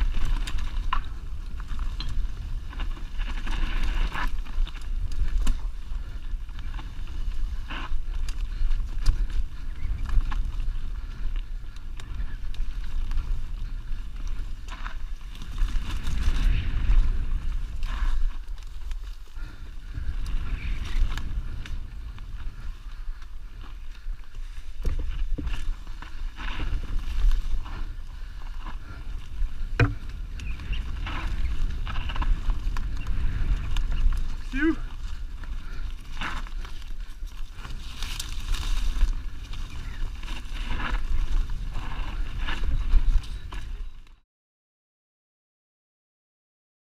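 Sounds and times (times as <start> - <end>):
bike chain and frame rattling: 0.0 - 43.8
wind rumbling on microphone: 0.0 - 44.2.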